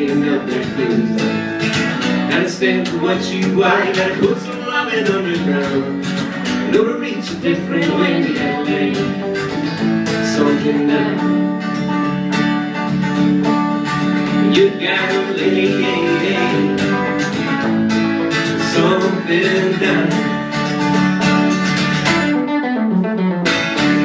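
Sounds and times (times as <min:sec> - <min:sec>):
acoustic guitar strumming: 0:00.0 - 0:24.0
electric guitar playing: 0:00.0 - 0:24.0.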